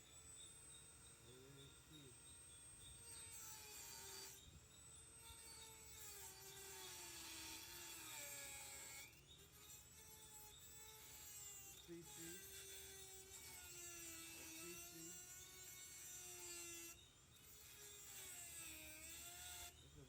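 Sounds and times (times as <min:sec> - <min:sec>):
rotary tool cutting whine: 0:00.0 - 0:20.0.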